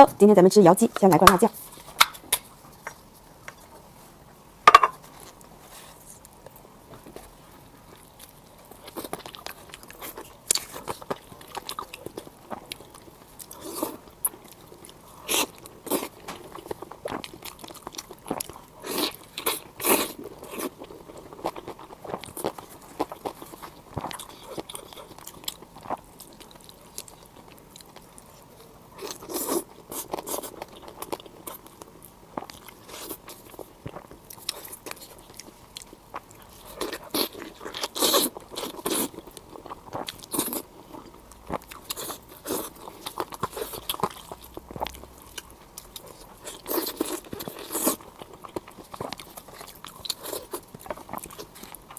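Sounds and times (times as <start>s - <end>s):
crunchy bites and chewing: 8.0s - 51.9s.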